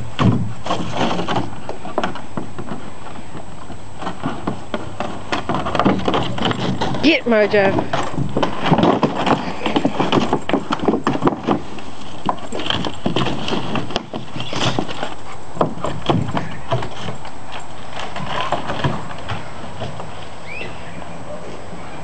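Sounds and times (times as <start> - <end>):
plastic pool knocking and scraping: 0.0 - 20.3.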